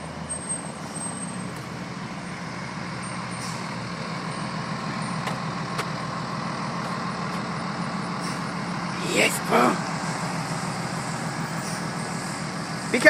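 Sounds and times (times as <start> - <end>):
fire engine diesel engine running: 0.0 - 13.0
road noise: 0.0 - 13.0.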